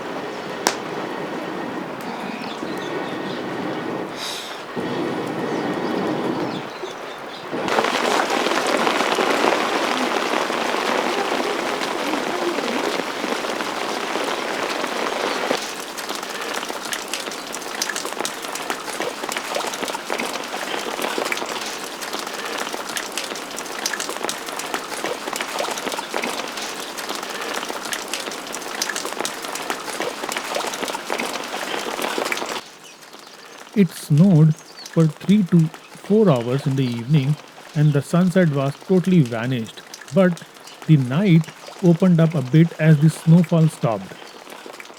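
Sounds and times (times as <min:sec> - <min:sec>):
rain patter: 0:00.0 - 0:44.9.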